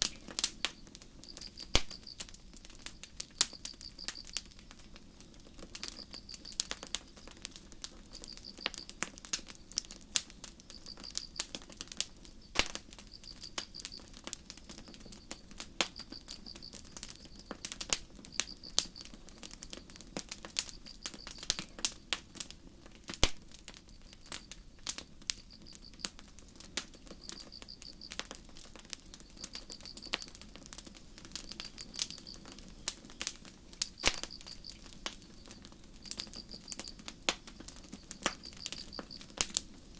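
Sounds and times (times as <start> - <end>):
crickets chirping: 0.0 - 10.0, 10.6 - 22.1, 23.6 - 39.9
campfire crackling and popping: 0.0 - 39.9.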